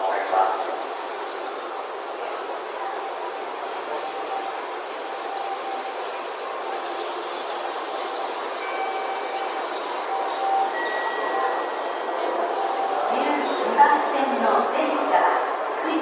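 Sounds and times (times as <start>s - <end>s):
train rushing rail noise: 0.0s - 16.0s.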